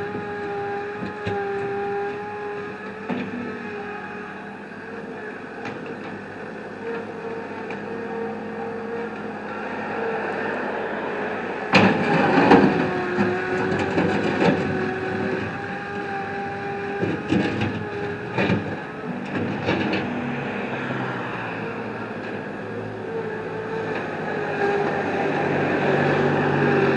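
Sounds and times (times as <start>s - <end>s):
heavy machine engine running: 0.0s - 26.9s.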